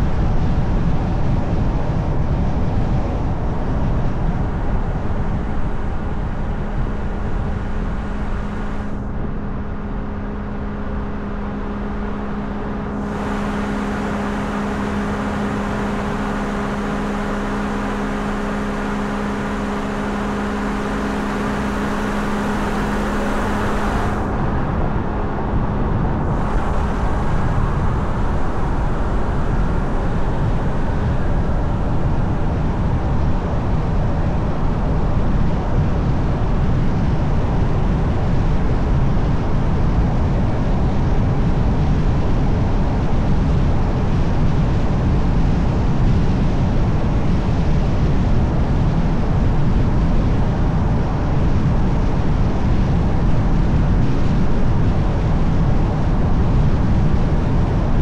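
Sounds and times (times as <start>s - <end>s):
road tyre and wind rumble: 0.0s - 58.0s
steady low hum: 0.0s - 58.0s.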